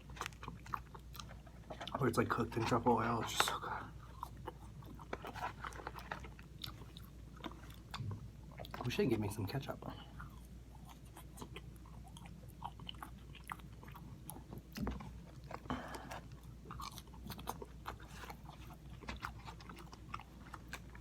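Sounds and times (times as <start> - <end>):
person chewing crispy food: 0.0 - 21.0.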